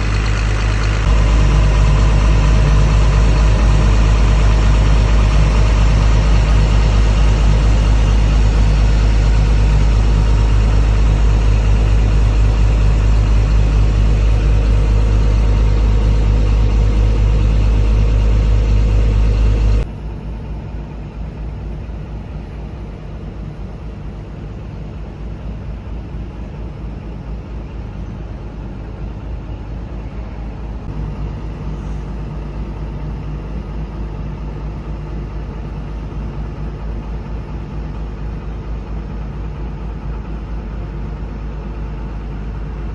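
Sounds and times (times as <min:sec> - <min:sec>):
excavator diesel engine running: 0:00.0 - 0:22.8, 0:30.9 - 0:42.9.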